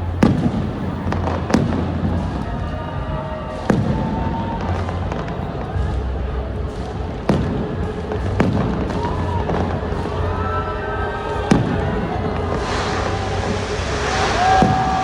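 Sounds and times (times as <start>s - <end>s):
continuous din: 0.0s - 15.0s
fireworks bangs with rumbling tail: 0.0s - 15.0s.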